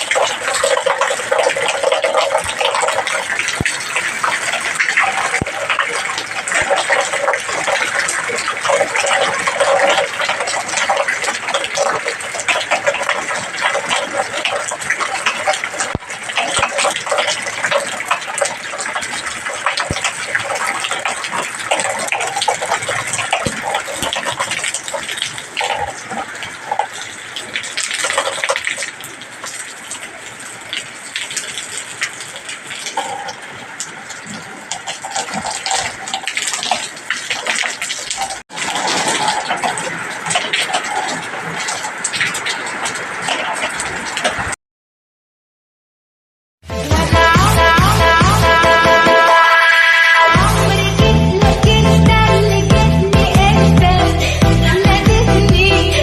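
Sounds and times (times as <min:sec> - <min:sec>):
heavy rain pouring: 0:00.0 - 0:44.6, 0:46.7 - 0:56.0.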